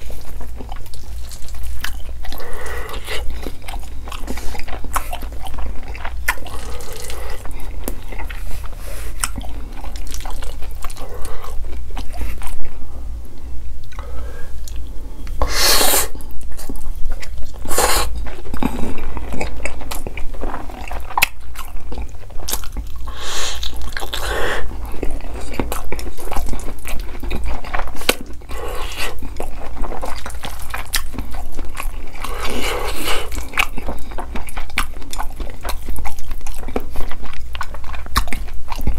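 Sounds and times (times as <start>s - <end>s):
wet chewing: 0.0s - 12.8s, 13.8s - 38.9s.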